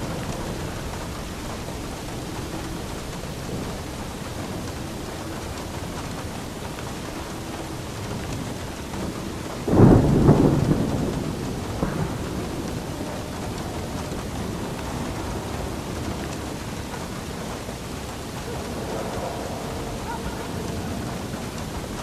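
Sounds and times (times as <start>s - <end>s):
steady rain: 0.0s - 22.0s
thunder clap and rumble: 0.0s - 22.0s.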